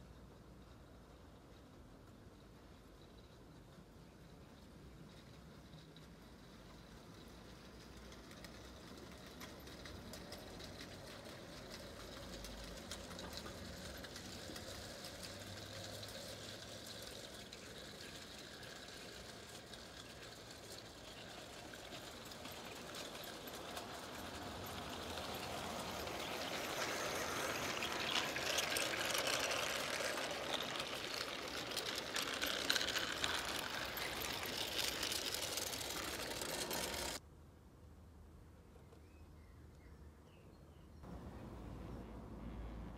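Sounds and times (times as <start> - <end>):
model train wheels rattling: 0.5 - 37.2.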